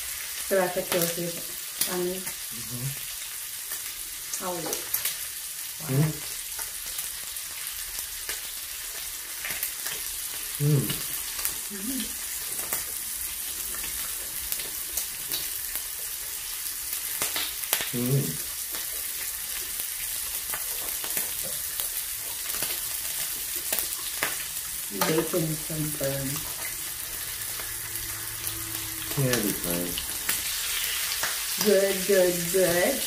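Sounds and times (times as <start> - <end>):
meat sizzling on grill: 0.0 - 33.0.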